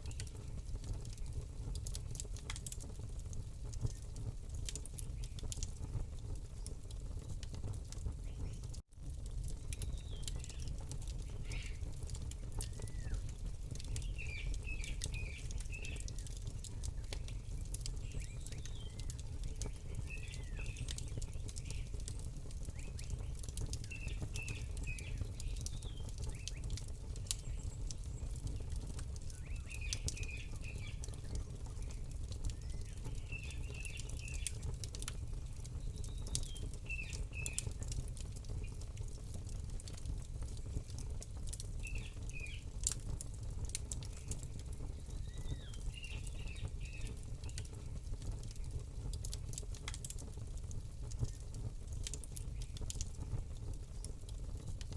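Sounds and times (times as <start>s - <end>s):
small birds chirping: 0.0s - 2.9s, 3.7s - 5.6s, 8.1s - 8.8s, 9.5s - 39.0s, 39.9s - 43.0s, 43.7s - 50.0s, 51.2s - 51.5s
campfire crackling and popping: 0.0s - 54.9s.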